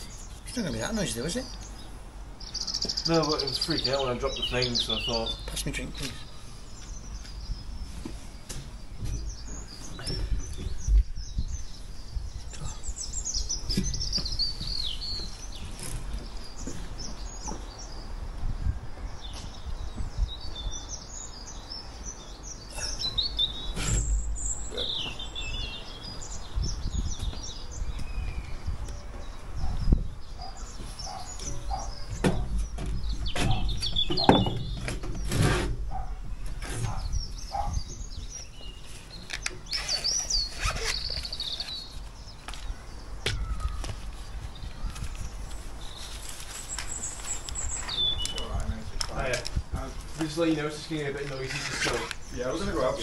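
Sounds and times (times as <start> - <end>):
birds chirping and singing: 0.0 - 53.0.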